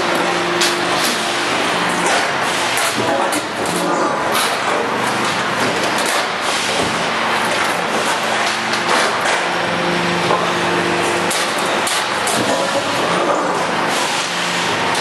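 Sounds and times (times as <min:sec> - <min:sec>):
hydraulic press running: 0:00.0 - 0:15.0.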